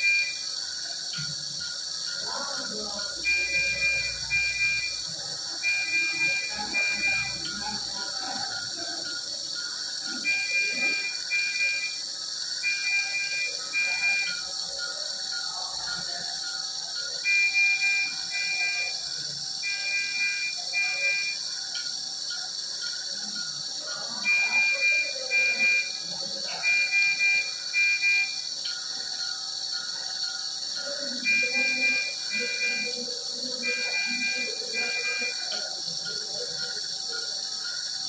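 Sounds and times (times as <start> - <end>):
medical monitor alarm beeps: 0.0 - 38.0.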